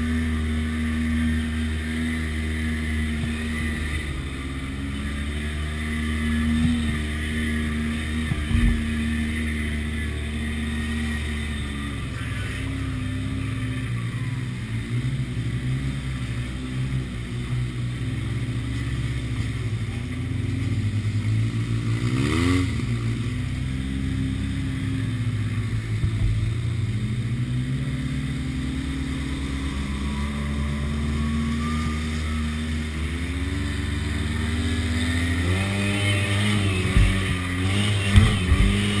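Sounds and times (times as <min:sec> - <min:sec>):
utility vehicle engine revving: 0:00.0 - 0:39.0.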